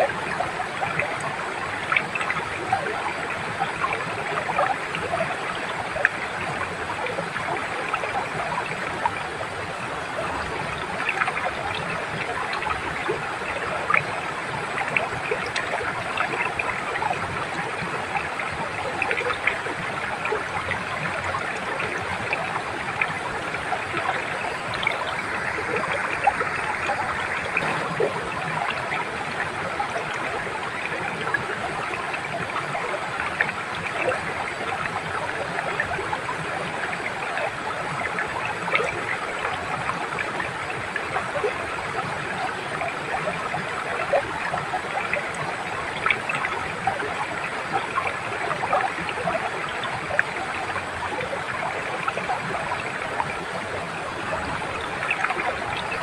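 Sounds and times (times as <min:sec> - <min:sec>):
stream running over stones: 0:00.0 - 0:56.0
water splashes and gurgles: 0:00.0 - 0:56.0.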